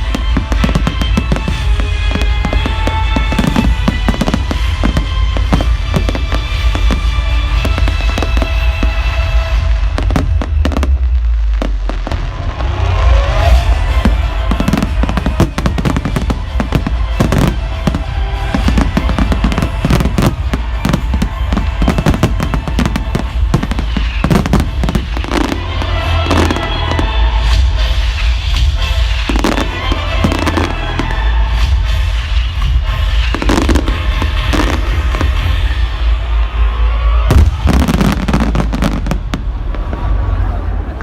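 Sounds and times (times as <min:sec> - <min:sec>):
fireworks bangs and crackles: 0:00.0 - 0:41.0
low rumble: 0:00.0 - 0:41.0
music playing: 0:00.0 - 0:41.0.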